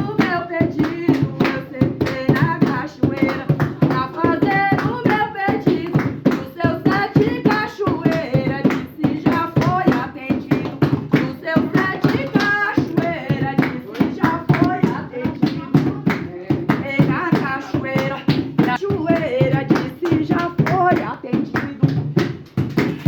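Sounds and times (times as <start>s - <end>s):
hand clapping: 0.0s - 23.0s
person singing a devotional chant: 0.0s - 23.0s.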